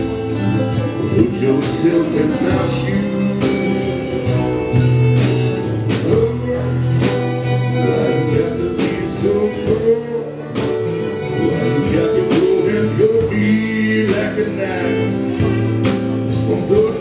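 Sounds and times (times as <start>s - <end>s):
country band playing: 0.0s - 17.0s
person singing: 0.0s - 17.0s.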